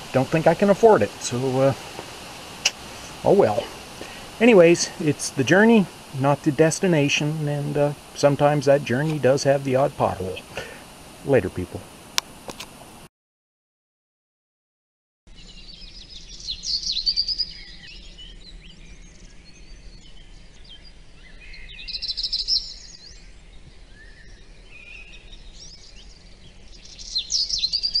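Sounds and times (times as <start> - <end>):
songbirds chirping and singing: 0.0 - 11.8, 15.3 - 28.0.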